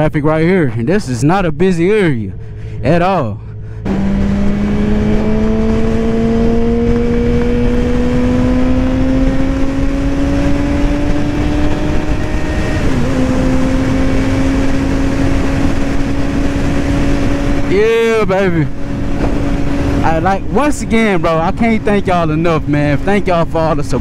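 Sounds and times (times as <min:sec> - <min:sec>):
motorcycle engine accelerating: 0:02.2 - 0:24.0
wind rush on microphone: 0:03.8 - 0:24.0.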